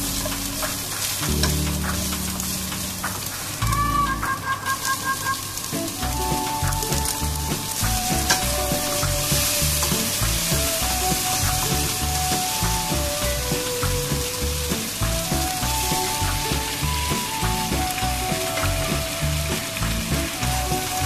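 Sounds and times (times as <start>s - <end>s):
background music with bass: 0.0s - 21.0s
peppers sizzling in hot oil: 0.0s - 21.0s.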